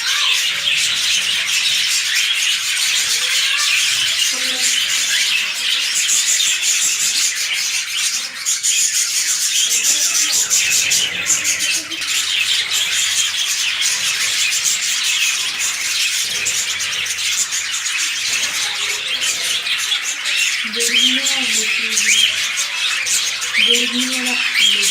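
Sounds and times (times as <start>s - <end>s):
lovebirds chattering and squawking: 0.0s - 24.9s.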